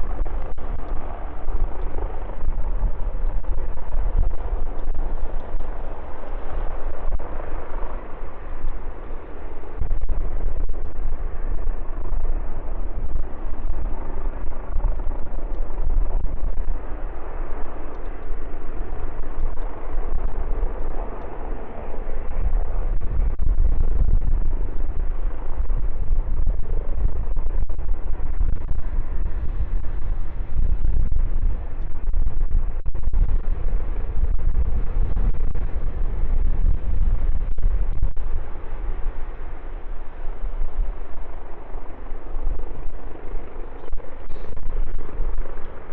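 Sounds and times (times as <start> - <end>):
jet engines: 0.0 - 45.9
wind buffeting microphone: 0.0 - 45.9.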